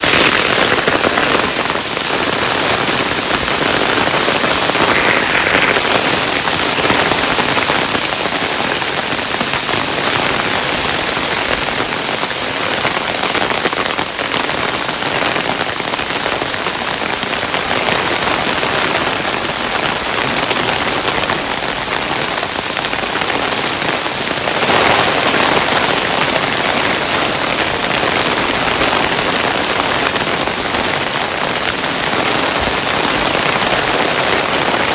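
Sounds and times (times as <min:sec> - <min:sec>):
hailstones falling: 0:00.0 - 0:34.9.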